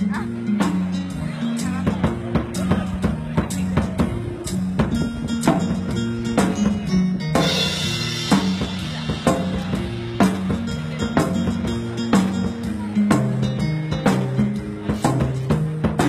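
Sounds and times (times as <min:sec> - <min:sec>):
drum kit playing: 0:00.0 - 0:16.0.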